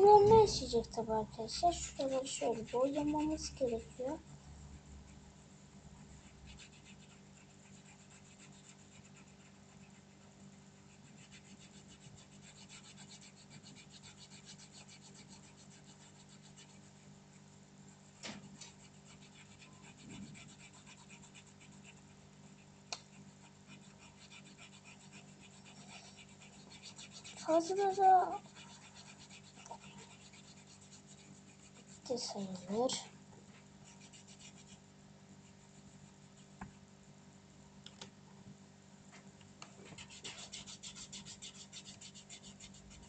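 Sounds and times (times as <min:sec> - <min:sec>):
pencil scratching on card: 0:00.0 - 0:05.3, 0:06.0 - 0:34.8, 0:35.4 - 0:36.8, 0:39.8 - 0:43.0.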